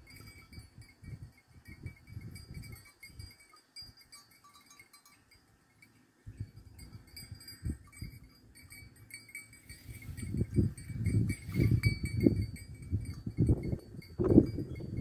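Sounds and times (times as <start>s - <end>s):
faint high ringing tones: 0.0s - 15.0s.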